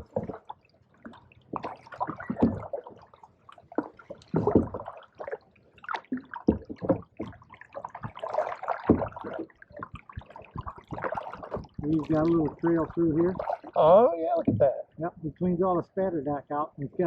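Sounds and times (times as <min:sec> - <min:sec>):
paddles dipping in water: 0:00.0 - 0:14.8
water splashes and drips: 0:00.0 - 0:14.8.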